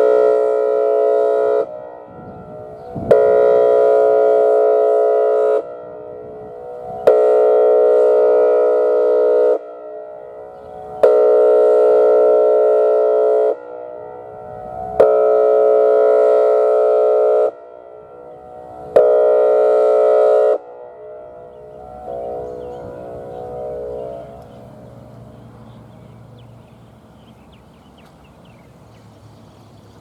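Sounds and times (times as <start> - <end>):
warning siren horn blasts: 0.0 - 28.6.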